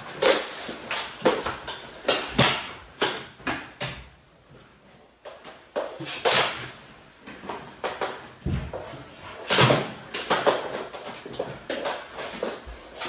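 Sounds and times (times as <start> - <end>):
plastic hockey sticks knocking: 0.0 - 4.2, 5.2 - 13.0.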